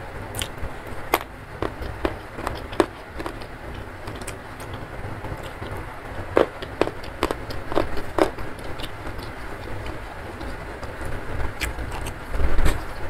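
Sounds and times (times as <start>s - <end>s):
wet chewing crunches: 0.3s - 13.0s.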